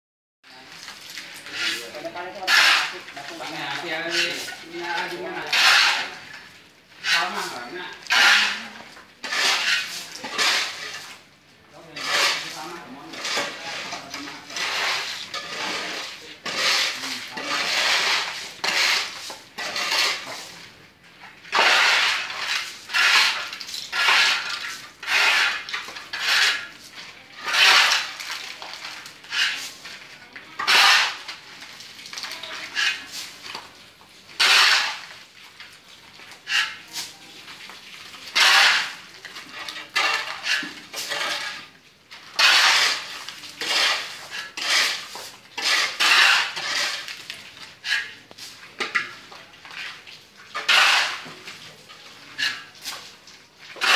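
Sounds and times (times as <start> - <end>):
shovel scraping sand and gravel: 1.2 - 6.3, 7.0 - 11.2, 11.9 - 20.6, 21.5 - 30.0, 30.6 - 31.5, 34.4 - 35.2, 36.4 - 37.4, 38.2 - 49.1, 49.9 - 51.5, 52.2 - 53.9.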